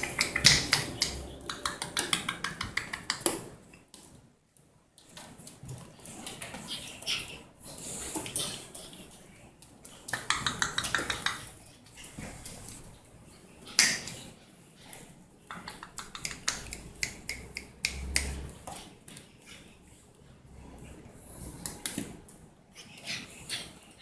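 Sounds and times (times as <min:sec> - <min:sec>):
puppies clicking and tapping on hard floor: 0:00.0 - 0:24.0.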